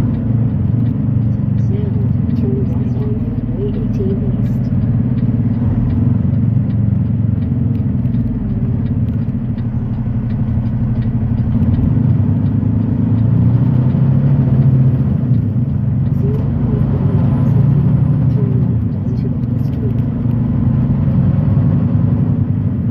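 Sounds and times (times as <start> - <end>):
road noise: 0.0 - 22.9
truck diesel engine rumble: 0.0 - 22.9.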